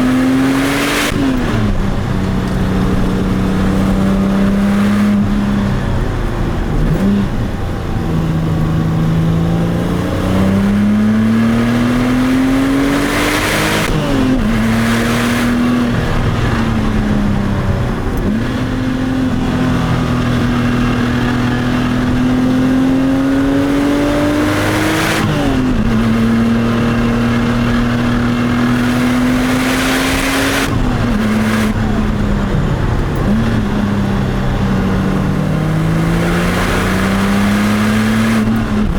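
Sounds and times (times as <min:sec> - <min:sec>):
sports car engine accelerating: 0:00.0 - 0:38.9.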